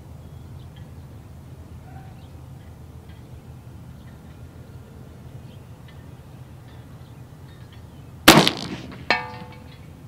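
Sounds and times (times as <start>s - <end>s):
birds chirping faintly: 0.0s - 8.2s.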